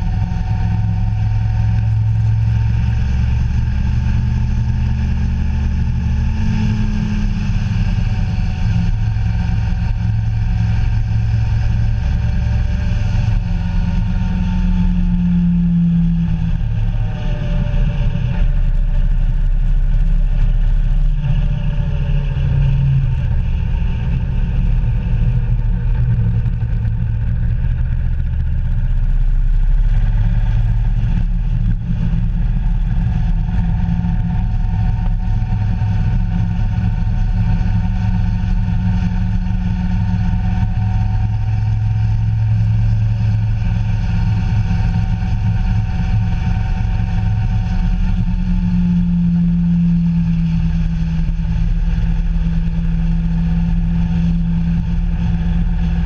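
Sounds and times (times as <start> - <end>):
vehicle engine running: 0.0 - 56.0
wind and road noise: 0.0 - 56.0.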